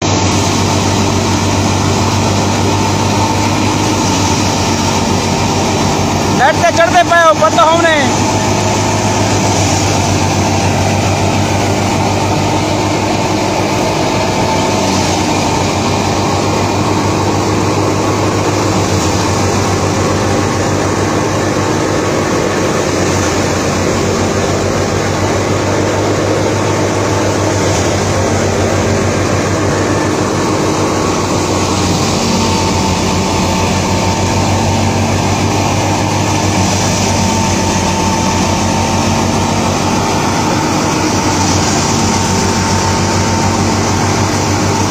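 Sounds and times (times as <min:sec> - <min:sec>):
thresher machine droning: 0:00.0 - 0:44.9.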